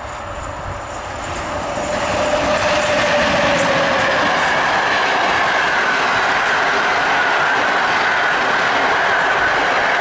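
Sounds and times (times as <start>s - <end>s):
train wheel and rail noise: 0.0s - 10.0s.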